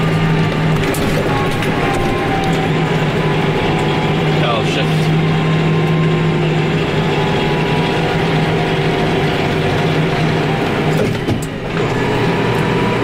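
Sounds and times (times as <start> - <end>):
tractor diesel engine pulling: 0.0 - 13.0.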